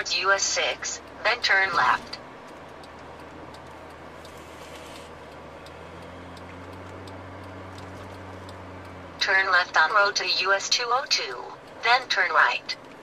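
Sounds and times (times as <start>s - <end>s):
car engine and road noise: 0.0s - 13.0s
turn signal ticking: 0.0s - 13.0s.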